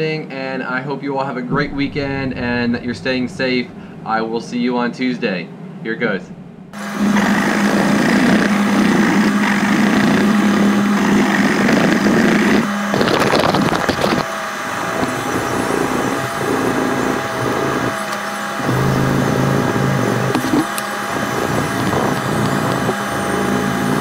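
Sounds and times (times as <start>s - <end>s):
steady low hum: 0.7s - 24.0s.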